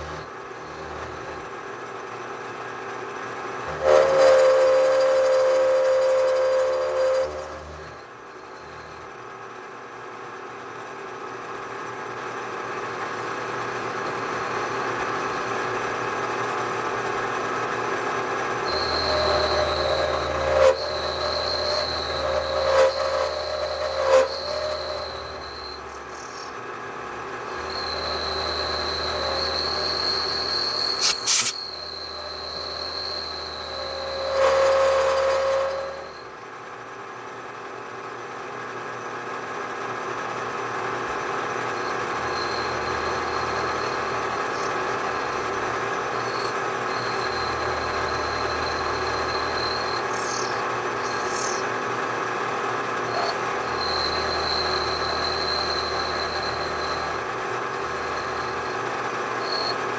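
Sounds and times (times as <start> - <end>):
high steady squeal: 0.0 - 1.5, 3.6 - 9.2, 12.8 - 36.4, 40.8 - 59.9
milling machine cutting metal: 0.0 - 1.6, 3.6 - 9.1, 13.1 - 36.4, 41.0 - 59.9.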